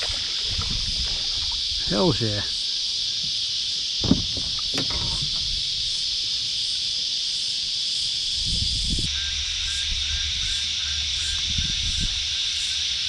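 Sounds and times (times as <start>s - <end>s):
cicada chorus buzzing: 0.0s - 13.0s.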